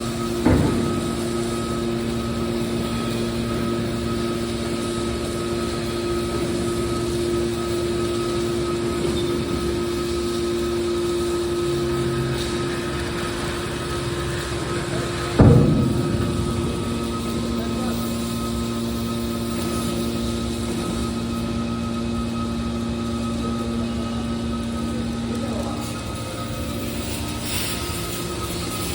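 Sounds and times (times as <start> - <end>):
scrap baler machine hum: 0.0 - 28.9.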